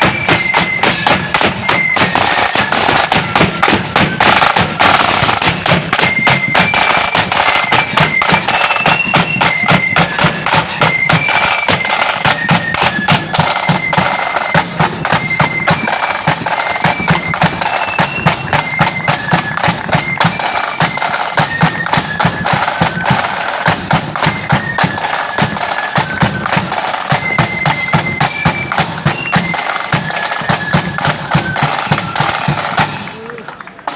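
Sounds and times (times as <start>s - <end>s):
shrill flutes playing: 0.0s - 33.9s
snare drum strokes: 0.0s - 33.9s.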